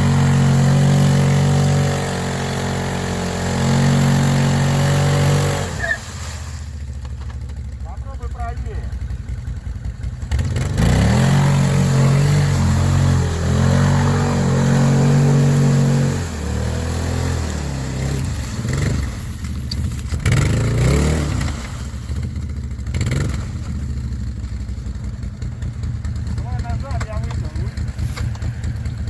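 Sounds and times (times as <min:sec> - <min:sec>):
quad engine revving: 0:00.0 - 0:06.3, 0:07.6 - 0:29.0.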